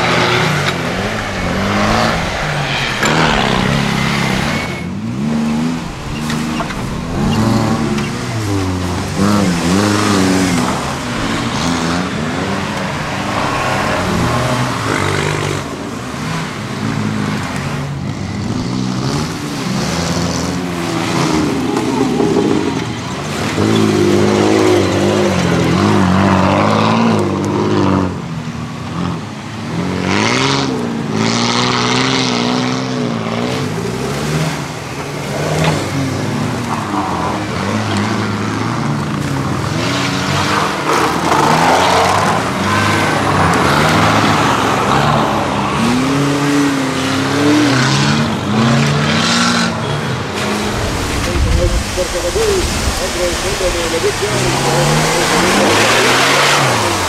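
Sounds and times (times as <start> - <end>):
engines revving under load: 0.0 - 57.0.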